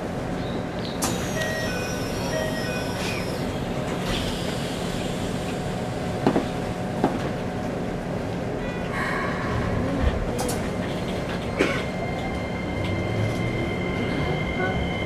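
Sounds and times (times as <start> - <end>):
train interior hum: 0.0 - 15.0.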